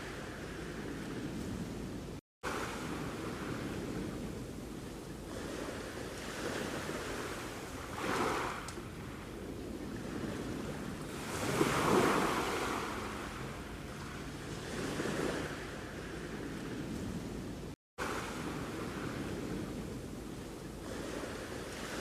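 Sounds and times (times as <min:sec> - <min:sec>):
sea waves breaking: 0:00.0 - 0:22.0
surf hiss: 0:00.0 - 0:22.0.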